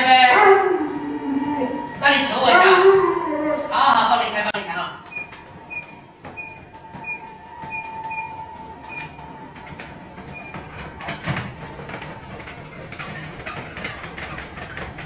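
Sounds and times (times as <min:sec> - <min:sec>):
electric treadmills running: 0:00.0 - 0:15.0.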